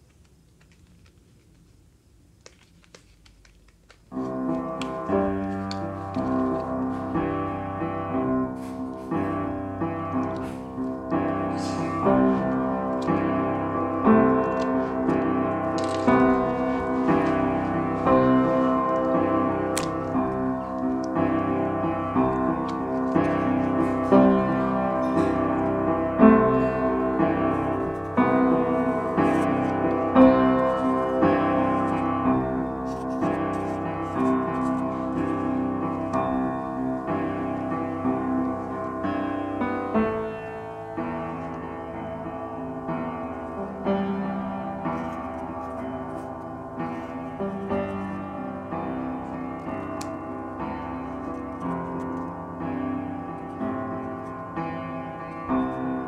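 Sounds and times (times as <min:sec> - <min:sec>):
piano music: 0:04.1 - 0:56.0.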